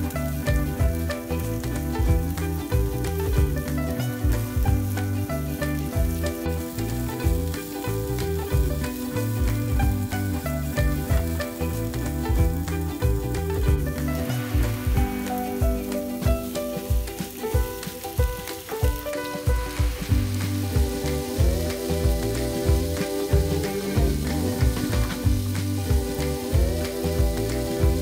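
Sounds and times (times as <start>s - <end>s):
background music with bass line: 0.0s - 28.0s
onions sizzling in a frying pan: 0.0s - 28.0s.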